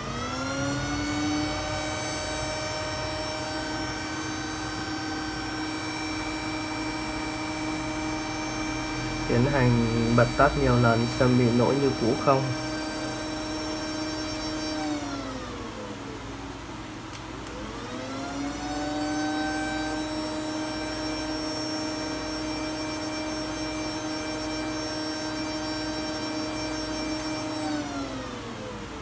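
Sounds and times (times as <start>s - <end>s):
electric motor whine: 0.0s - 16.3s, 17.5s - 29.0s.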